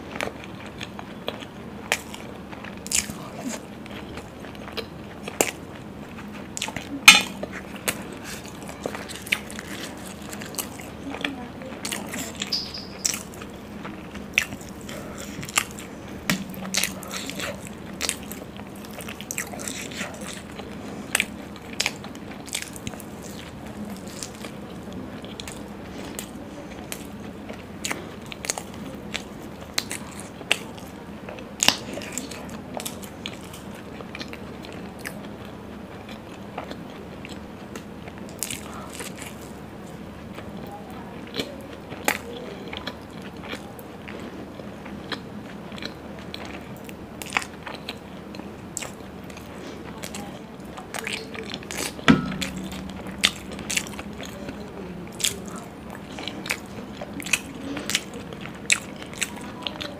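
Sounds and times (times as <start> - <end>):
person chewing wetly: 0.0 - 59.9.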